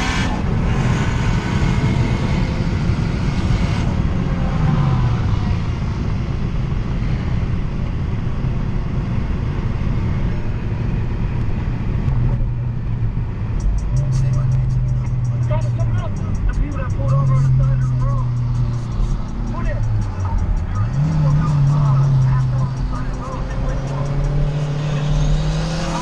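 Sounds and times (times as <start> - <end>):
car engine at low revs: 0.0 - 26.0
road and tyre noise: 0.0 - 26.0.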